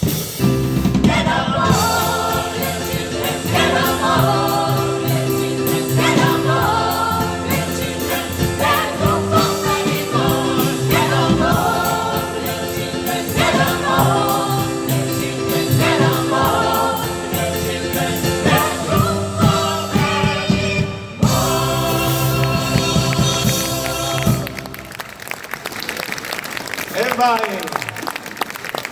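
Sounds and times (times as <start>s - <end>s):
choir singing: 0.9s - 24.8s.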